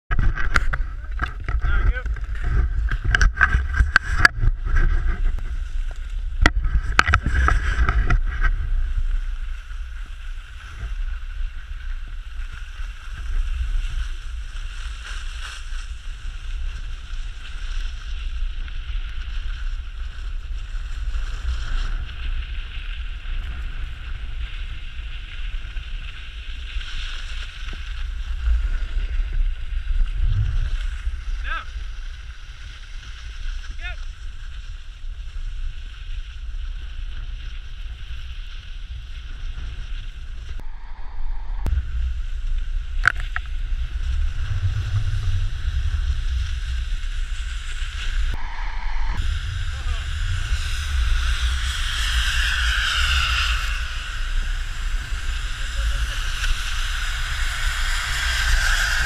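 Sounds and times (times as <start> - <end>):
wind rumbling on microphone: 0.0 - 59.0
skis sliding over snow: 0.2 - 59.0.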